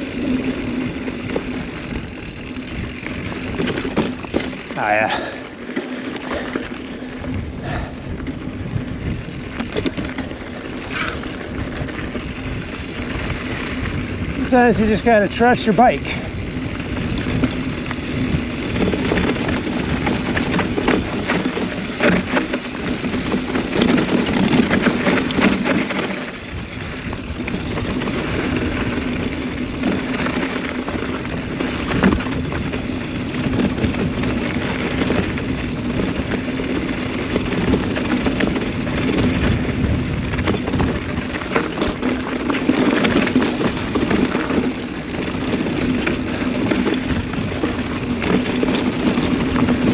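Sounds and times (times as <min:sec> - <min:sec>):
bike rattling and knocking: 0:00.0 - 0:49.9
wind and tyre noise: 0:00.0 - 0:49.9.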